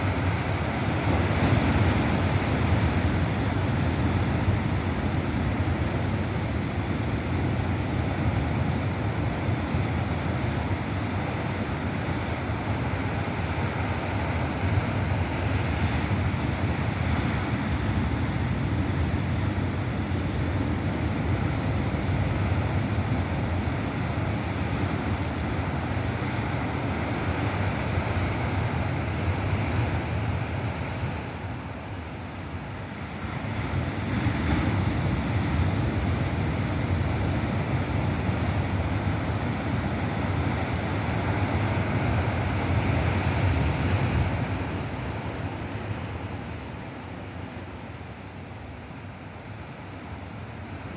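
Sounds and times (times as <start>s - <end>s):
ocean waves crashing: 0.0s - 50.9s.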